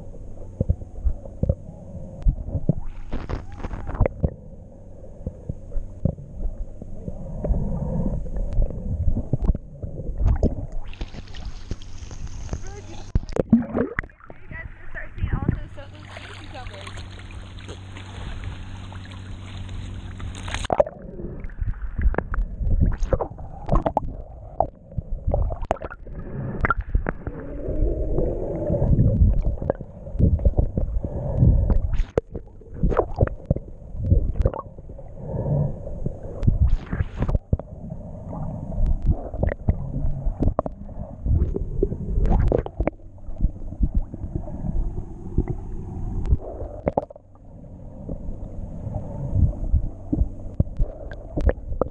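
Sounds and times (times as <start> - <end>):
muffled underwater gurgling: 0.0 - 51.9
wind and water hiss: 0.0 - 51.9.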